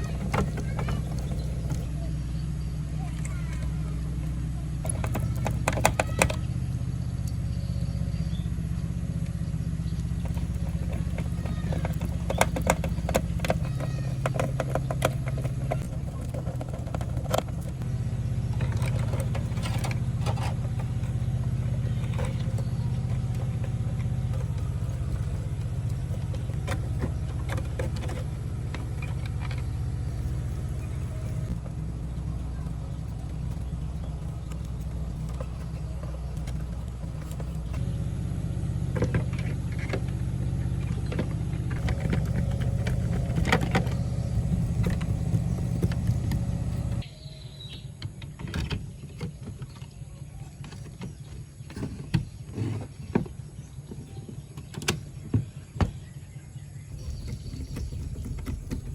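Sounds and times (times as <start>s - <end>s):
steady low hum: 0.0s - 47.1s, 56.5s - 58.9s.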